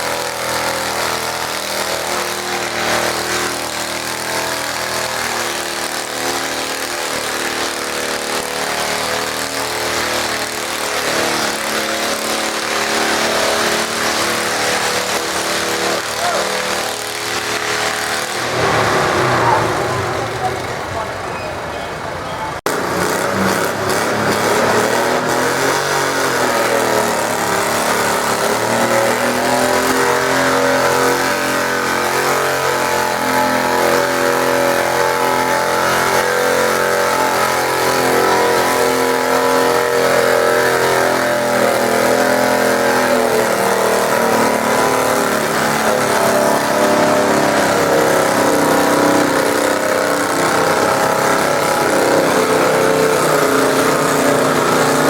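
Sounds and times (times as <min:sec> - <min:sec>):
tractor engine running under load: 0:00.0 - 0:21.2, 0:22.6 - 0:55.0.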